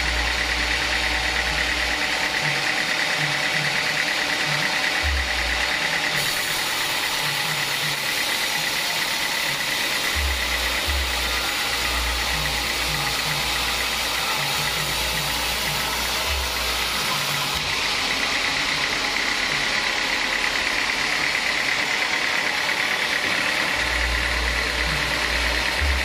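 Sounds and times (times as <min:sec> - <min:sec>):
low mechanical rumble: 0:00.0 - 0:06.2, 0:09.5 - 0:26.0
band sawmill blade sawing wood: 0:00.0 - 0:26.0.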